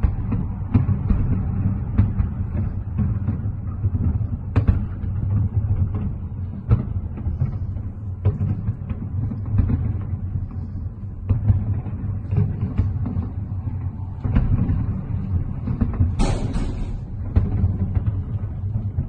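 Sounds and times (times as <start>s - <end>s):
fireworks rumbling bursts: 0.0s - 19.0s.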